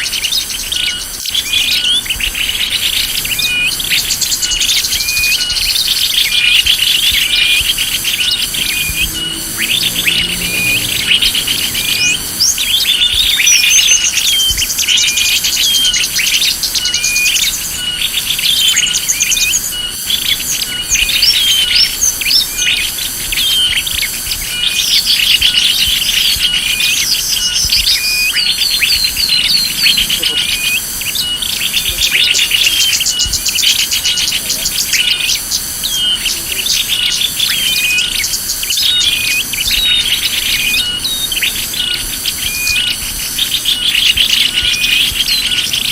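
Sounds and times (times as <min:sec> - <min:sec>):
pulsing insect-like buzz: 0:00.0 - 0:45.9
small birds chirping: 0:00.0 - 0:45.9.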